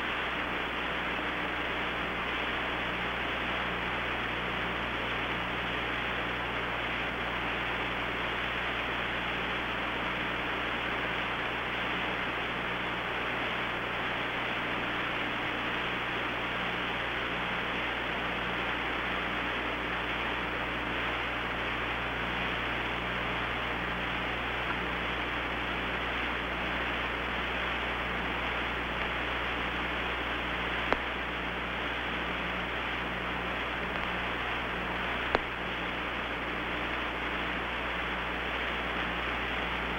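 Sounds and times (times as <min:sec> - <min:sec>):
radio hiss: 0:00.0 - 0:39.9.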